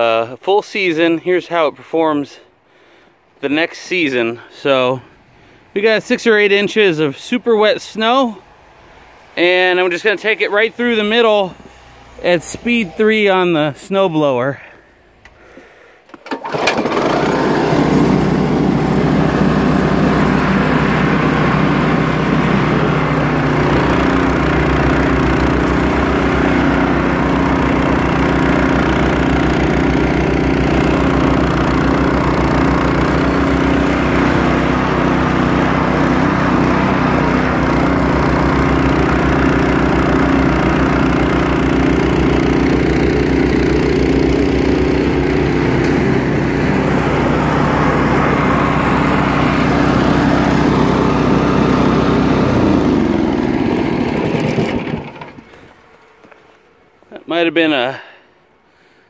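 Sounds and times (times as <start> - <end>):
snowblower engine running: 4.2 - 59.0.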